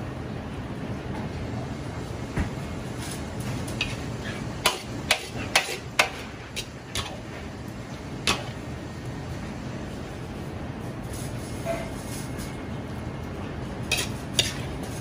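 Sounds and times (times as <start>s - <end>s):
low kitchen background noise: 0.0s - 15.0s.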